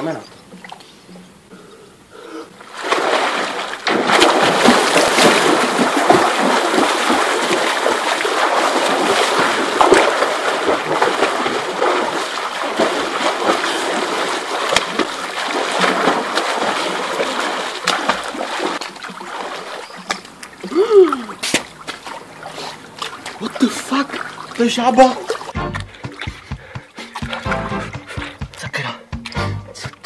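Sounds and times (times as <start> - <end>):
pool water splashing: 0.0 - 30.0.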